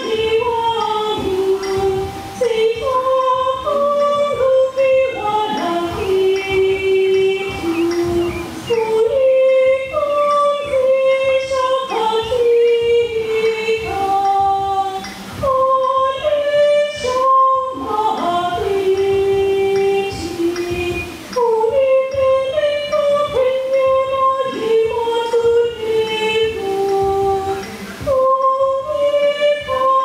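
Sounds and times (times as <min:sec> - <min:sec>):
woman singing slow melody: 0:00.0 - 0:30.0.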